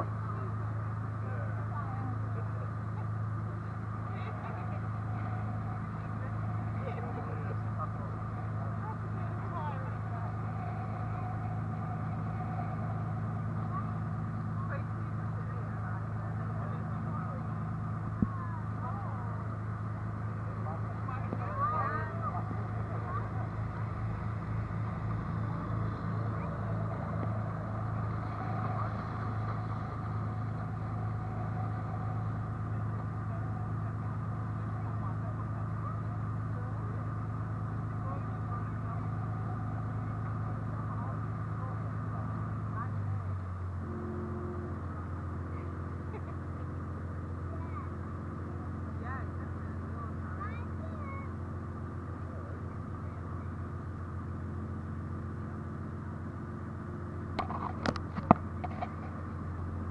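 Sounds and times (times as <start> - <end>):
speedboat engine droning: 0.0 - 59.9.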